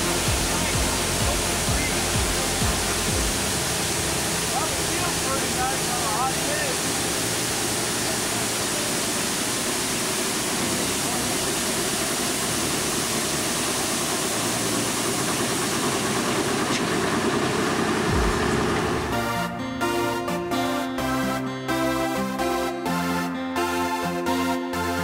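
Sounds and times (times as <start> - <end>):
music: 0.0 - 15.8, 18.0 - 25.0
high-pressure water jets hissing: 0.0 - 20.0
vehicle engine running: 0.0 - 20.0.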